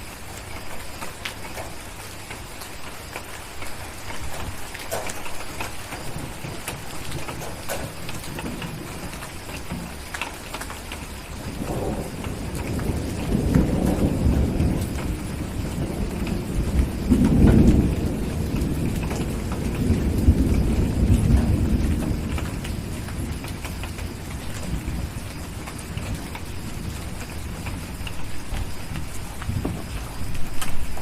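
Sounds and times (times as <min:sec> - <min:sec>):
steady rain: 0:00.0 - 0:31.0
thunder rolling: 0:03.8 - 0:10.1, 0:11.0 - 0:31.0.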